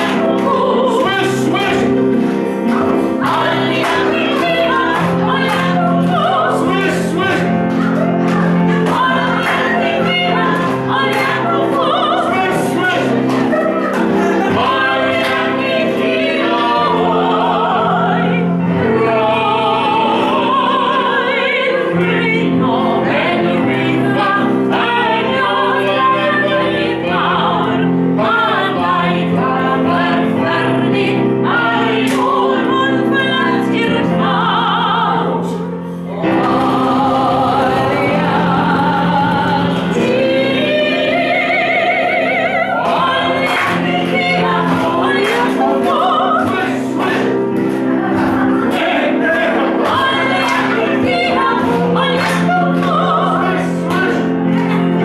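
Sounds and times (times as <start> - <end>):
accompaniment chords: 0.0 - 55.0.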